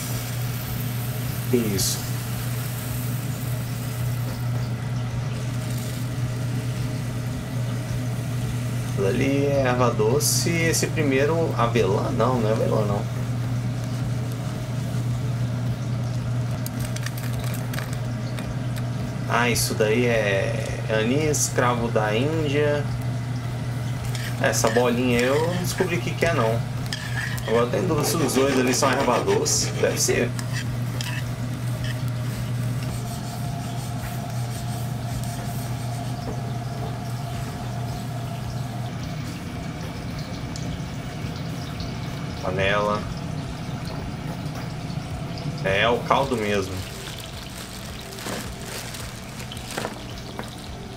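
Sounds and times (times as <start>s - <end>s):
kitchen equipment humming: 0.0s - 50.9s.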